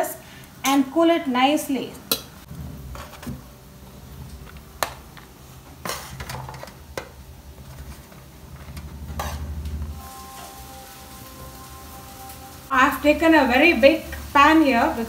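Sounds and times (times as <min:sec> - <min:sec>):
faint frying sizzle: 0:00.1 - 0:15.0.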